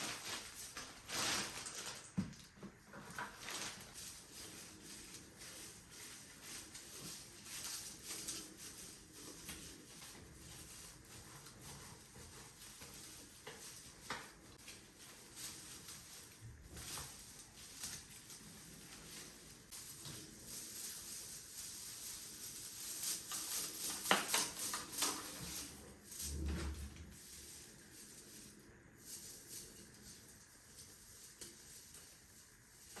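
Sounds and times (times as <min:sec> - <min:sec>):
small objects clicking and rustling: 0:00.0 - 0:33.0.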